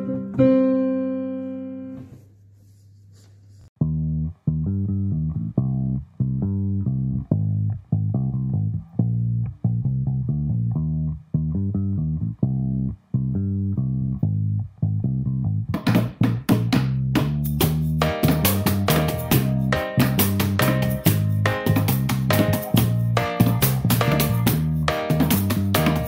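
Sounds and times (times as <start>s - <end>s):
low simple instrumental melody: 0.0s - 2.2s, 3.8s - 26.0s.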